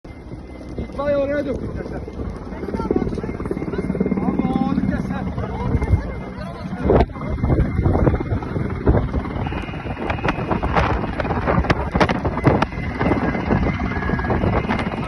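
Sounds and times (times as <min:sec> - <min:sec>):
low engine rumble: 0:00.1 - 0:15.0
wind on microphone: 0:00.1 - 0:15.0.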